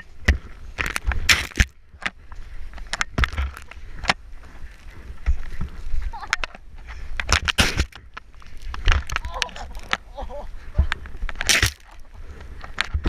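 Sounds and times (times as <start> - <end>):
skis crunching through powder: 0.0 - 12.6.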